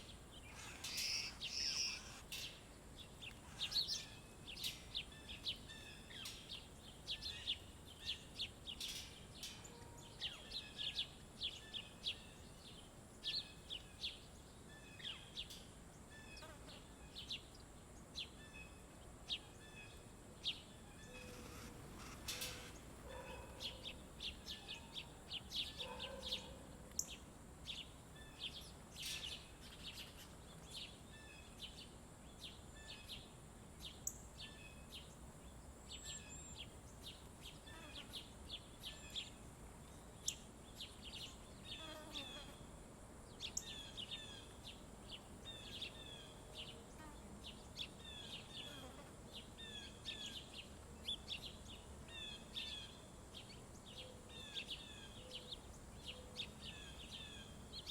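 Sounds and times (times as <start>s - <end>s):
faint steady high hiss: 0.0s - 25.8s, 26.4s - 57.9s
small birds chirping: 0.0s - 42.6s, 43.3s - 57.9s.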